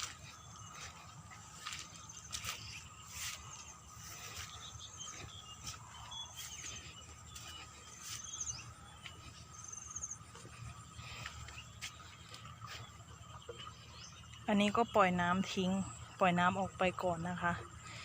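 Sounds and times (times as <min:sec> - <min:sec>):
rapid chirping trills: 0:00.0 - 0:14.6
insects trilling drone: 0:00.0 - 0:18.0.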